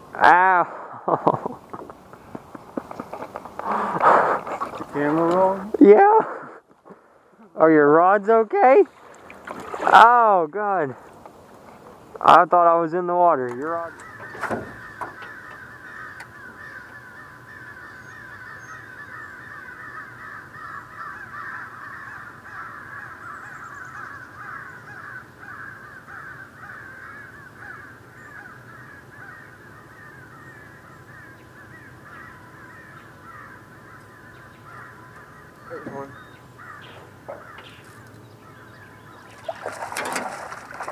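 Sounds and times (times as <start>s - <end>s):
flock of birds chattering: 1.5s - 5.8s, 6.6s - 40.9s.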